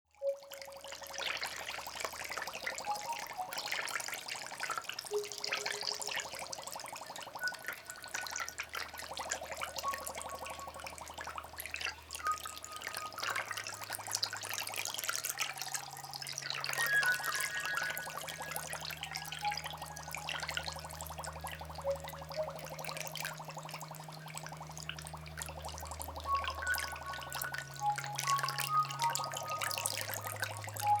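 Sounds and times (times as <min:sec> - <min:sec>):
soft ambient music: 0:00.2 - 0:31.0
water trickling and splashing: 0:00.2 - 0:31.0.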